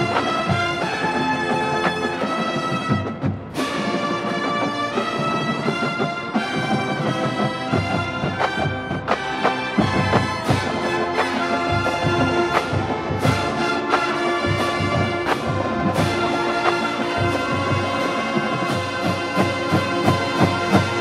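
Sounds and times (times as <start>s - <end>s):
brass holding chords: 0.0s - 21.0s
drumline beat: 0.0s - 21.0s.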